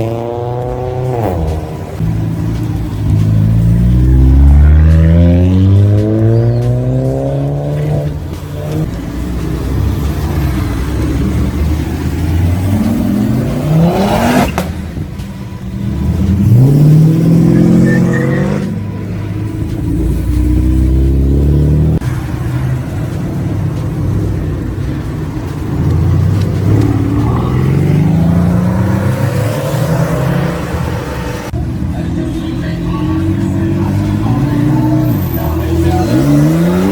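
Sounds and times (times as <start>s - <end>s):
car engines revving and accelerating: 0.0s - 36.9s.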